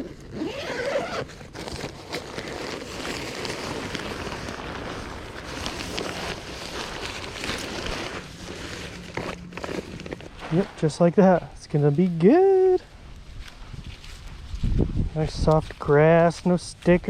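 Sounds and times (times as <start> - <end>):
tent fabric rustling: 0.0 - 16.1.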